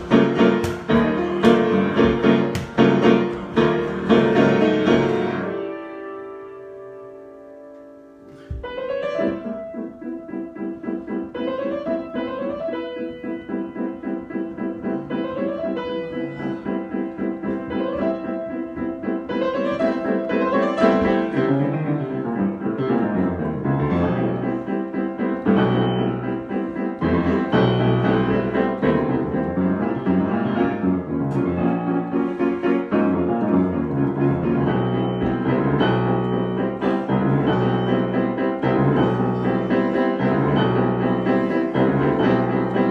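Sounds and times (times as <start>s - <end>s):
solo piano: 0.0s - 42.9s.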